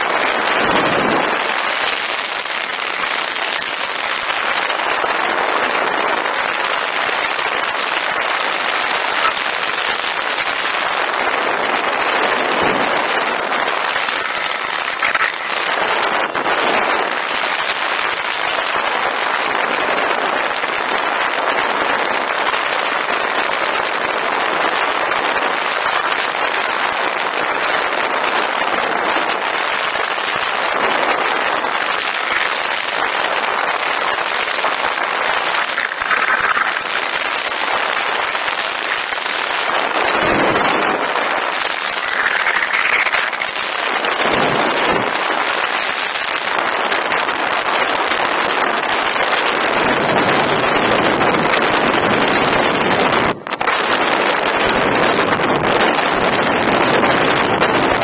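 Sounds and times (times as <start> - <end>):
wind and propeller hiss: 0.0 - 58.0.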